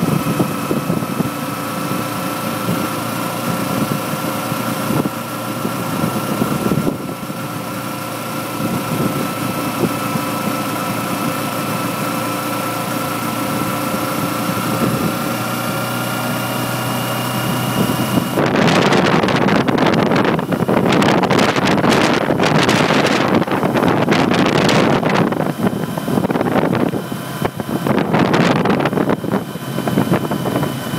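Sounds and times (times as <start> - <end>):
wind on microphone: 0.0 - 12.2, 13.4 - 30.9
motorcycle engine running: 0.0 - 30.9.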